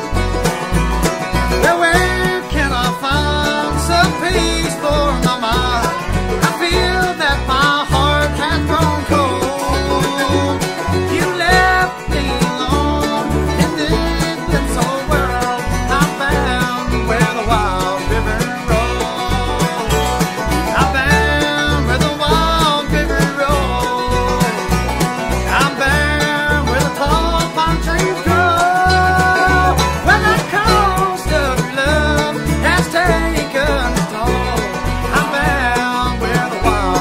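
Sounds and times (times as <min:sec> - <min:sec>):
bluegrass band playing: 0:00.0 - 0:37.0
upright bass plucking: 0:00.0 - 0:37.0.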